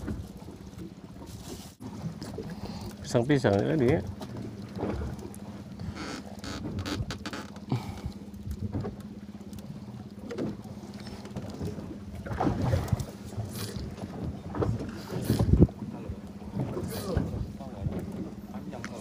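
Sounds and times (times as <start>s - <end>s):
boat engine humming: 0.0s - 19.0s
water noise: 0.0s - 19.0s.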